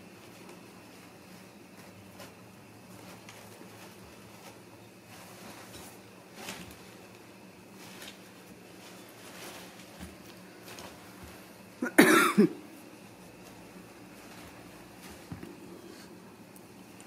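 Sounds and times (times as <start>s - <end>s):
kittens rustling flowers: 0.0s - 11.8s, 12.7s - 17.0s
steady low hum: 0.0s - 17.0s.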